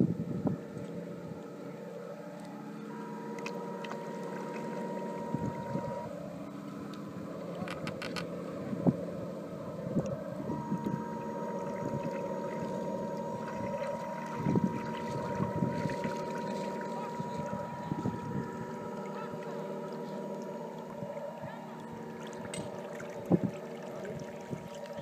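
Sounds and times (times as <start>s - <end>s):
model boat motor running: 0.0s - 25.0s
thin steady whine: 0.0s - 25.0s.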